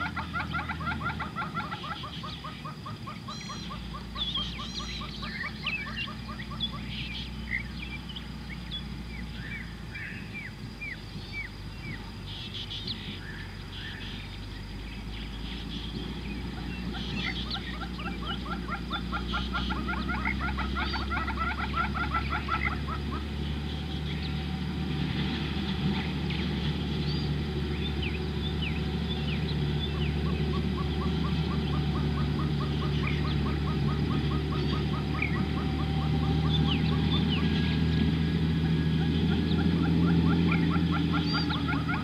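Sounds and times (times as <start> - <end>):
birds chirping: 0.0 - 42.0
rattling pulsed animal call: 0.0 - 42.0
steady low rumble: 0.0 - 42.0.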